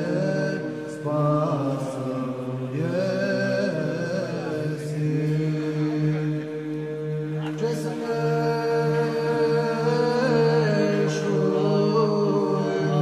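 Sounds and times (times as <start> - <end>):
voices chanting: 0.0 - 13.0.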